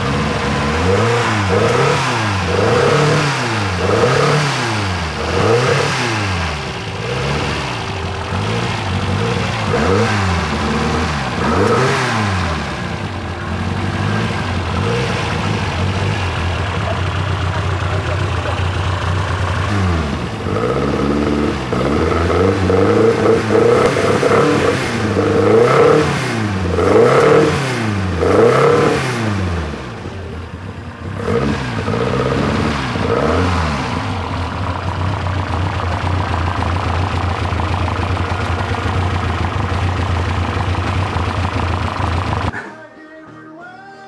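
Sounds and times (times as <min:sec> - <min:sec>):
engine idling: 0:00.0 - 0:42.6
racing engine revving: 0:00.0 - 0:42.7.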